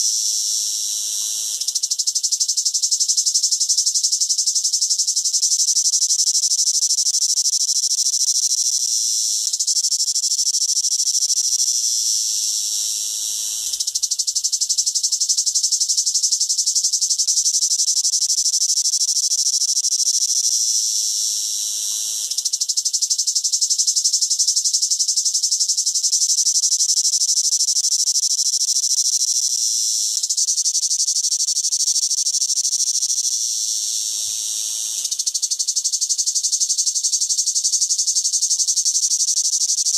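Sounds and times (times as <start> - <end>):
cicada buzzing: 0.0 - 39.9.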